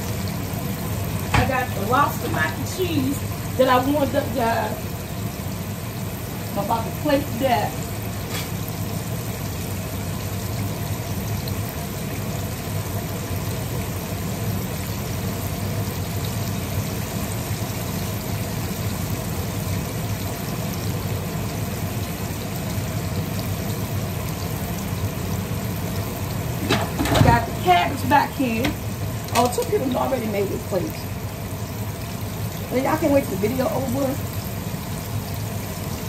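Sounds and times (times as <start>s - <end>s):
meat frying in hot oil: 0.0s - 36.0s.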